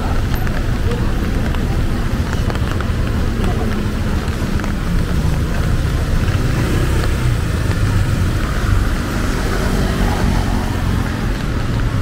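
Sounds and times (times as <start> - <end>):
light ticks of rain: 0.0 - 12.0
low rumble of road traffic: 0.0 - 12.0.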